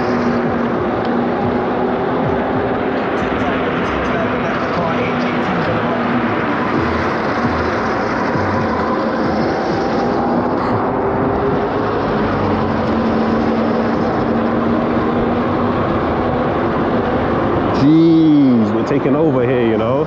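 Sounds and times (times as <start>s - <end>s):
road and wind noise: 0.0s - 20.0s
steady whining tone: 0.0s - 20.0s.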